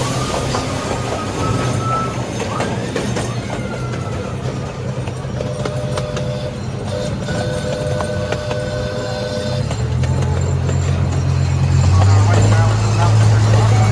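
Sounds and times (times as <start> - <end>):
miniature train engine rumble: 0.0 - 13.9
wheels clicking over rail joints: 0.0 - 13.9.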